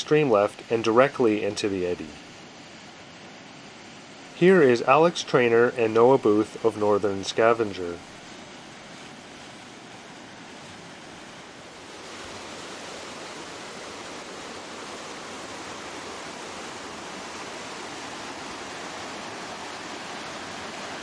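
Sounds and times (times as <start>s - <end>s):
river whitewater rushing: 0.0s - 21.0s.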